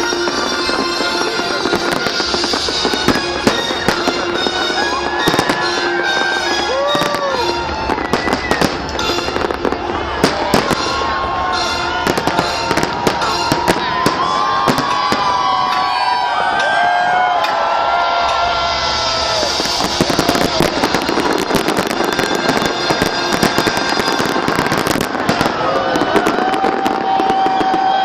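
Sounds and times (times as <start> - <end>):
music playing: 0.0 - 16.0, 18.2 - 25.6
fireworks bangs and crackles: 0.0 - 28.0.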